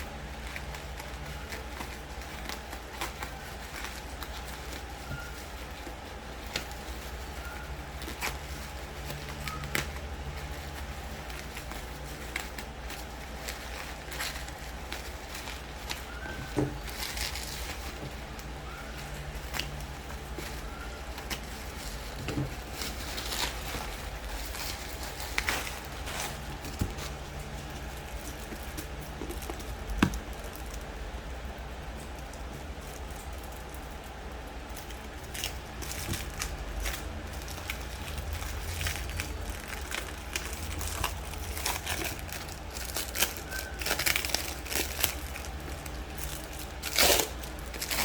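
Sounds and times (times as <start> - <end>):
book packaging clicks and crinkles: 0.0 - 48.0
steady low hum: 0.0 - 48.0.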